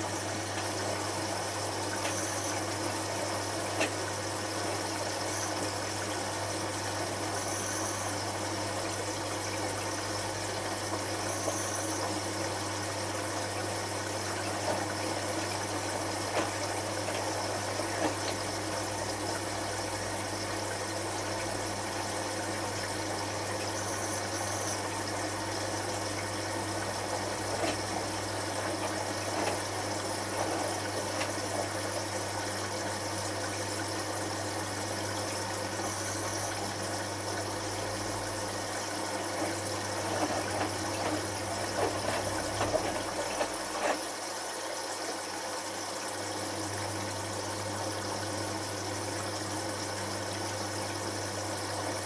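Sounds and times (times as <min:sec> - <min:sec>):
washing machine hum: 0:00.0 - 0:52.0.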